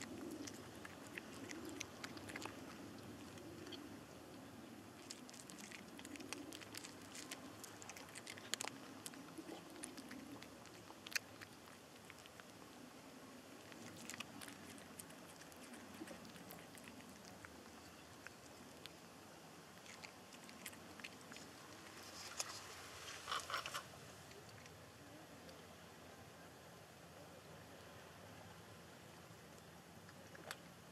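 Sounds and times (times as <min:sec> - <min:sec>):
cat crunching food: 0:00.0 - 0:24.8.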